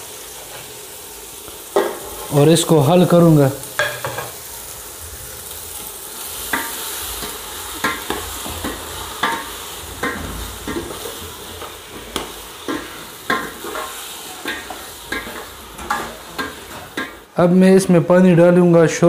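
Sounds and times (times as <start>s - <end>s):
oil sizzling: 0.0s - 18.1s.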